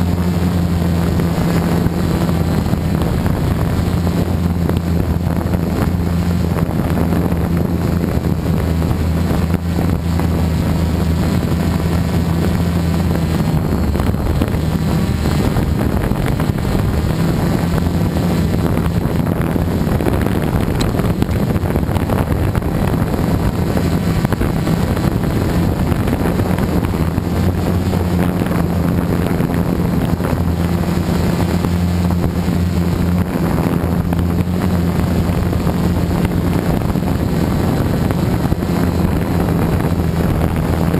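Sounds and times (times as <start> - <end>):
drone motors humming: 0.0 - 40.9
wind buffeting microphone: 0.0 - 40.9.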